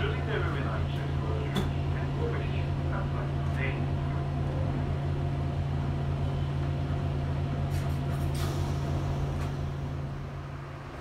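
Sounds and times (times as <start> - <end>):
train car rumble and hum: 0.0 - 11.0.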